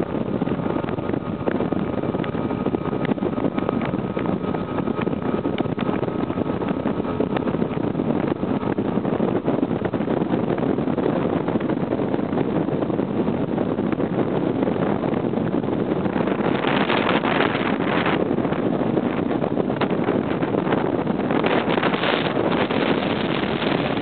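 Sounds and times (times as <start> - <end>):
wind and water rushing: 0.0 - 24.0.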